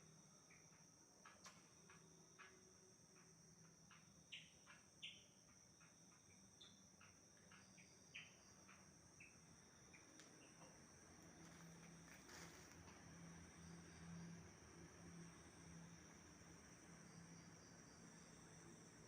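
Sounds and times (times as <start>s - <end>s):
faint low hum: 0.0s - 19.0s
high-pitched insect trill: 0.0s - 19.0s
insect chirps: 0.0s - 19.0s.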